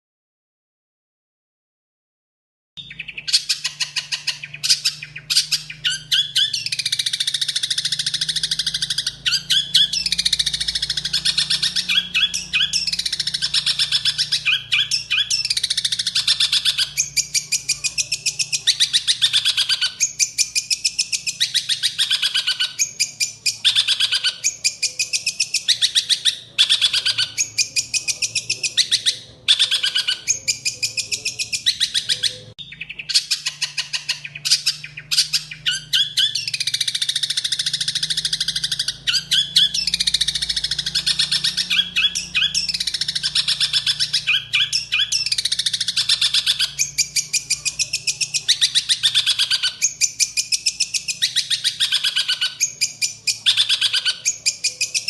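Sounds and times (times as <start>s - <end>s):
songbird singing: 2.8s - 55.0s.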